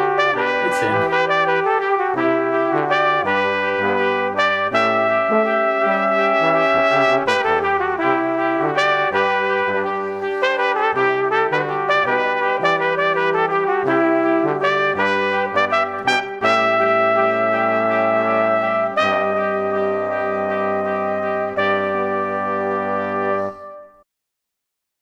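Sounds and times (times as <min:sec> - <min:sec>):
instrumental music with held notes: 0:00.0 - 0:24.0.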